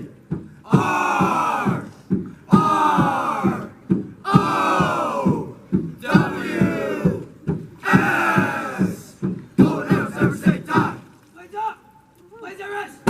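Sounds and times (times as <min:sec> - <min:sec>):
knocking beat: 0:00.0 - 0:11.1
group chanting in unison: 0:00.6 - 0:11.1.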